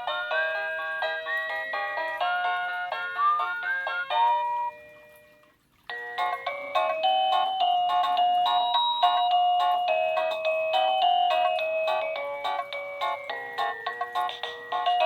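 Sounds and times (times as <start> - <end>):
electronic doorbell melody: 0.0 - 15.0.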